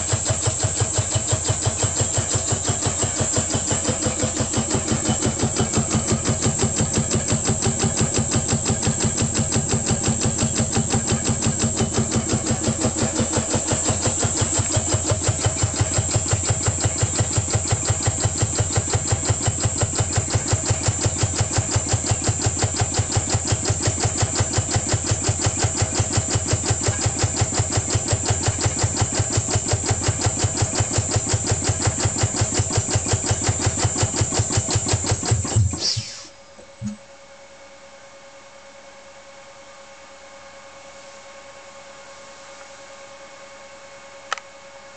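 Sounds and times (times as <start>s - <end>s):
air compressor chuffing: 0.0s - 37.0s.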